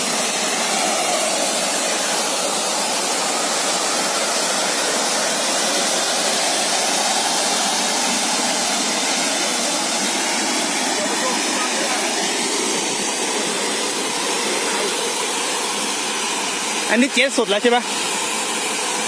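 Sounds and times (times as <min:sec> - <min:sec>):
water jet spraying: 0:00.0 - 0:19.0.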